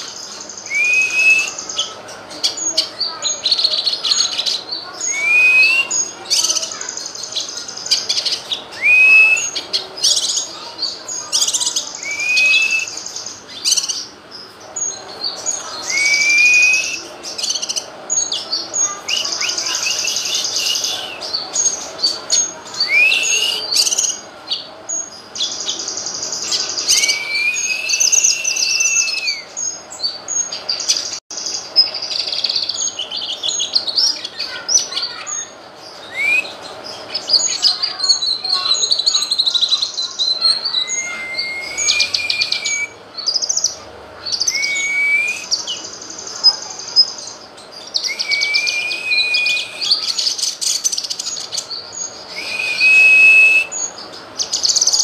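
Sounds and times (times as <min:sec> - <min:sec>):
bird singing whistles and chatter: 0:00.0 - 0:55.0.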